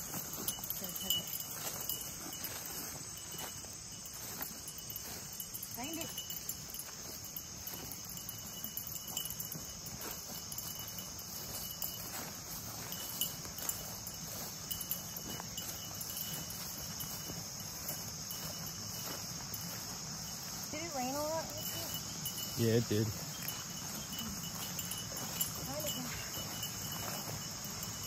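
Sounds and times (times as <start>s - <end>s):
insects chorus: 0.0s - 28.0s
rustling through grass: 0.0s - 28.0s.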